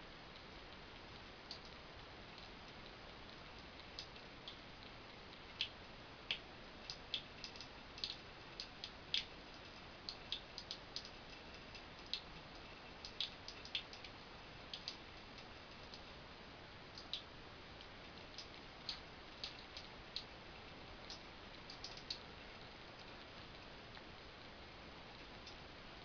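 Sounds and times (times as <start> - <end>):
faint steady hiss: 0.0 - 26.0
water dripping and splashing: 1.0 - 16.2, 16.9 - 24.1.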